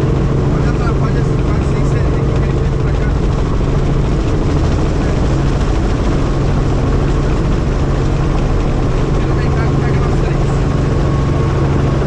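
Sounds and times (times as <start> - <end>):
helicopter engine and rotor: 0.0 - 12.0.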